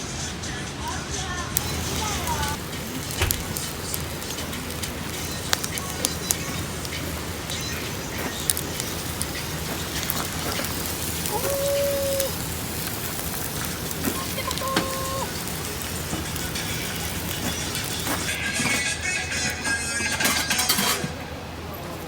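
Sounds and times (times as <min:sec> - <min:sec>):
campfire crackling: 0:00.8 - 0:21.0.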